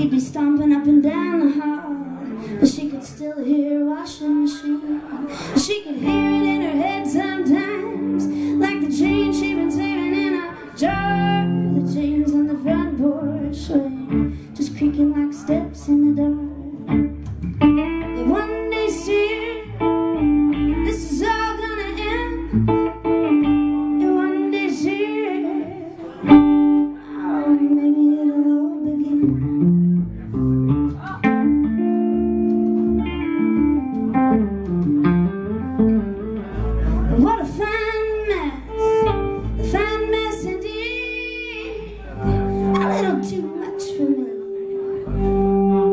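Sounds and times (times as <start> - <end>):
guitar with bending notes: 0.0 - 45.9
plucked upright bass: 4.6 - 45.9.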